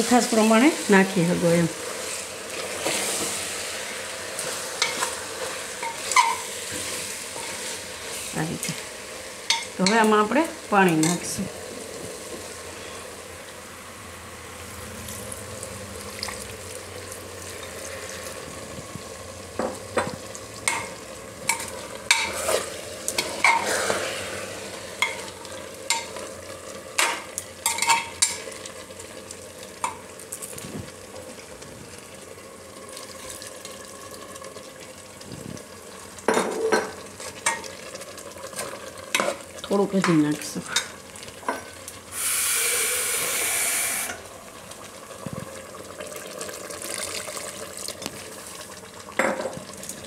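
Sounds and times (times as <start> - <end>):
food sizzling: 0.0 - 50.0.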